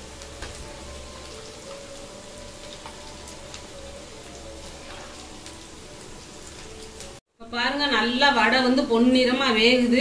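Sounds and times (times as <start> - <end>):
deep-frying sizzle with pops: 0.0 - 9.5.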